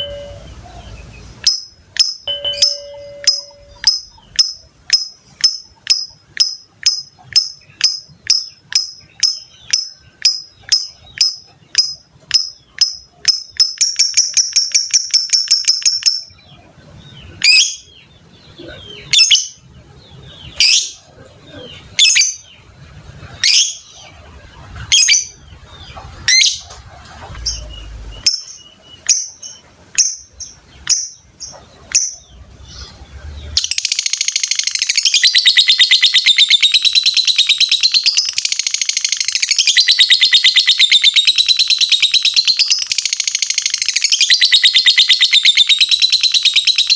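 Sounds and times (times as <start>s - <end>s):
lovebird chirping and trilling: 0.0s - 46.9s.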